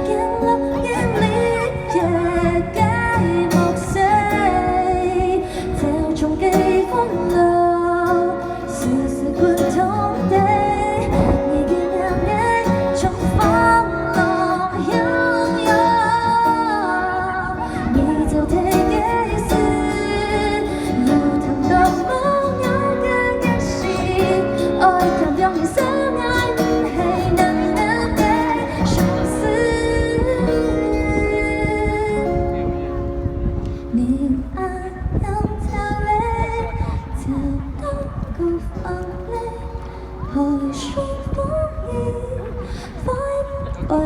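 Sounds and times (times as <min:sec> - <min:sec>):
woman singing: 0:00.0 - 0:32.9, 0:33.9 - 0:44.0.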